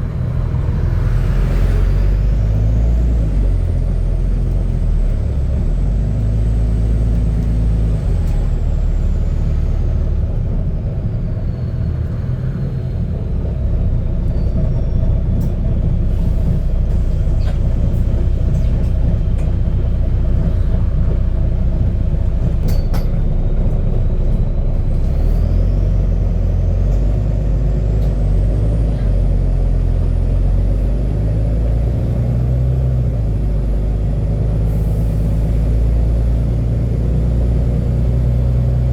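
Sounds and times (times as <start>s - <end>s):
bus engine rumbling: 0.0s - 38.9s.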